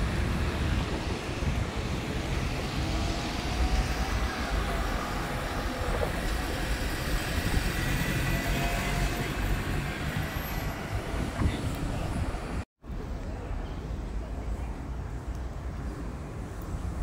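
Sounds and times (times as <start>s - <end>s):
traffic rumble: 0.0s - 17.0s
urban noise: 0.0s - 17.0s.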